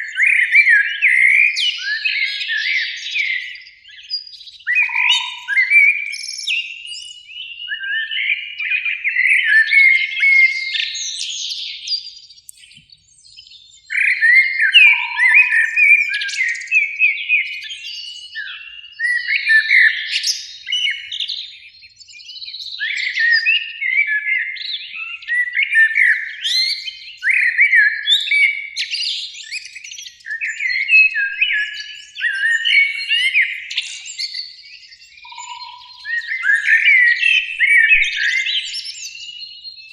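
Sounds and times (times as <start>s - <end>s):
blackbirds singing: 0.0s - 39.9s.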